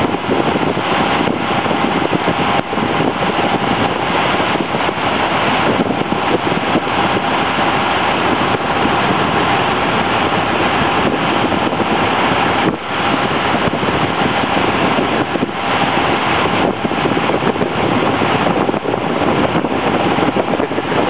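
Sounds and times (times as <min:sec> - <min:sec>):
boat engines running: 0:00.0 - 0:21.0
water noise: 0:00.0 - 0:21.0
wind on microphone: 0:00.0 - 0:21.0.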